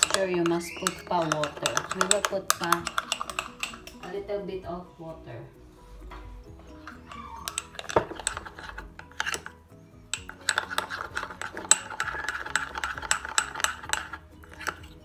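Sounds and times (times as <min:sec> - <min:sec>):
metal spoon clinking in ceramic bowl: 0:00.0 - 0:04.2, 0:06.8 - 0:15.0.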